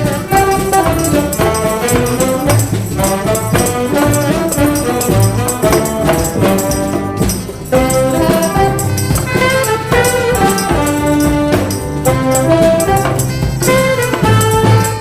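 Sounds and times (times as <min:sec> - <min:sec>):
brass ensemble music with beat: 0:00.0 - 0:15.0.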